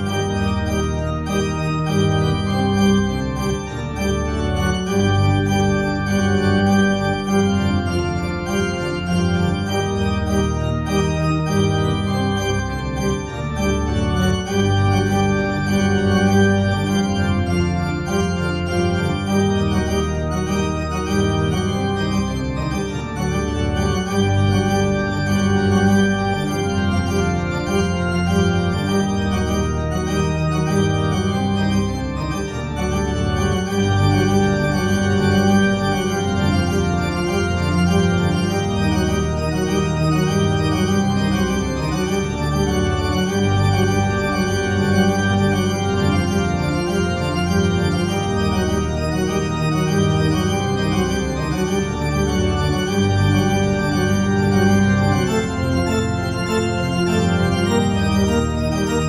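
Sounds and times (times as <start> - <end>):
organ playing slow chords: 0.0 - 59.0.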